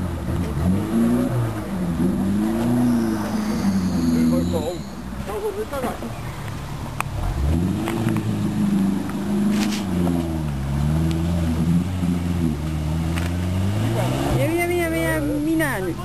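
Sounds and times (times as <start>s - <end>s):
car engine under throttle: 0.0s - 16.0s.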